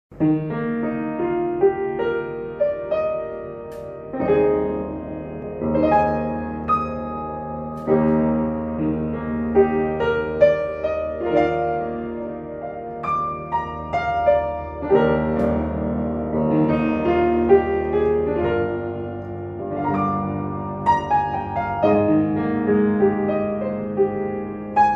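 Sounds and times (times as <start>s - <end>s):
slow piano piece: 0.1s - 24.9s.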